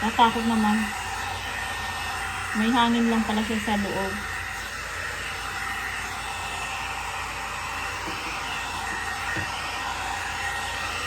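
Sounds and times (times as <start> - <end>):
hot-air hair brush blowing: 0.0 - 11.0.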